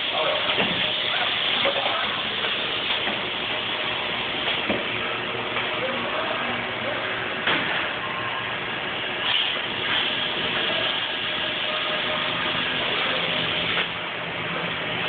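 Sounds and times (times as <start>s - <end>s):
machinery hiss and hum: 0.0s - 15.0s.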